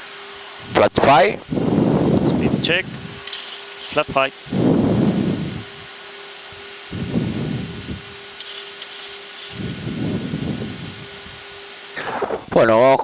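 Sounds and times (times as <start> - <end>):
cockpit hum: 0.6 - 8.6, 9.4 - 13.0.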